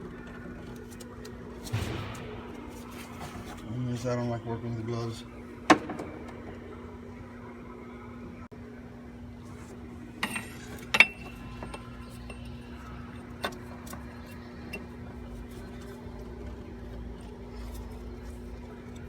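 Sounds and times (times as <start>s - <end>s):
low hum: 1.4s - 19.0s.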